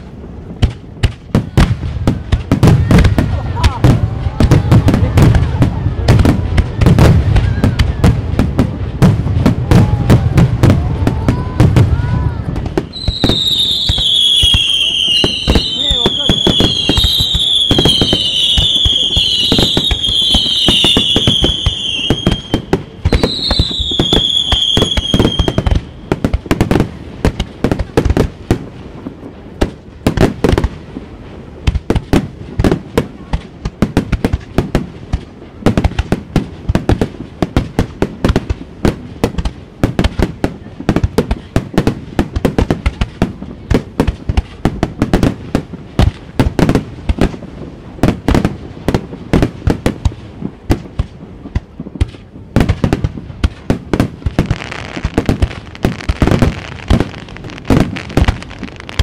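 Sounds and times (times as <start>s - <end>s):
firework shells booming: 0.0s - 59.0s.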